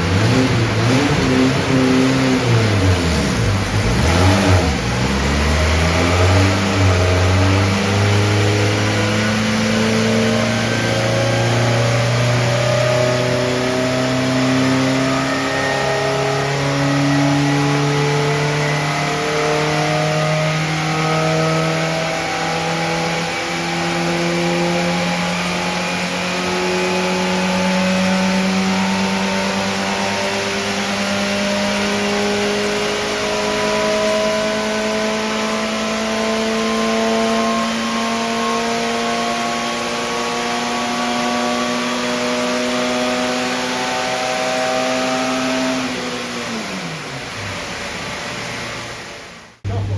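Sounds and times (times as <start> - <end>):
racing car engine revving: 0.0 - 49.9.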